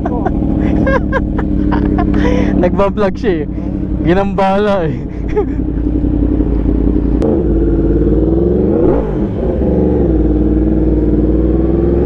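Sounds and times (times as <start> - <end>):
motorcycle engine cruising: 0.0 - 12.0
second engine revving: 0.0 - 12.0.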